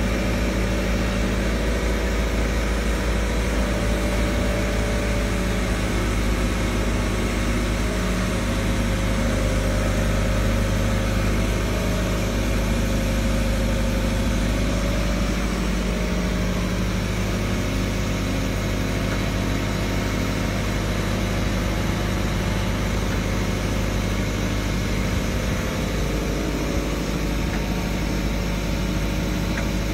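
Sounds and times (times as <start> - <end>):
crane diesel engine running: 0.0 - 29.9.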